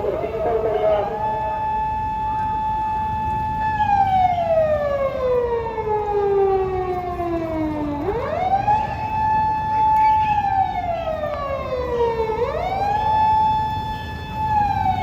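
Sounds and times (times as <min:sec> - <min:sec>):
police car siren wailing: 0:00.0 - 0:15.0.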